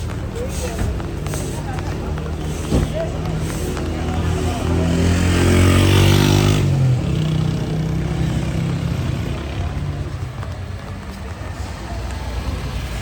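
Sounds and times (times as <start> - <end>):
vehicle engine passing by: 0.5 - 13.0.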